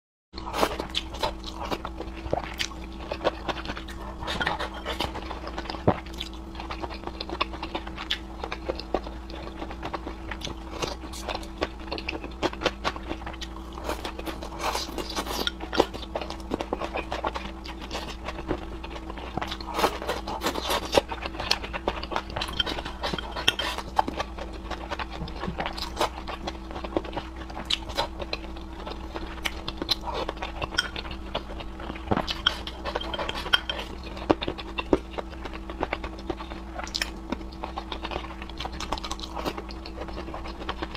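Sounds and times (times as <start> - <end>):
chewing and slurping noodles: 0.4 - 40.9
faint steady hum: 0.4 - 40.9.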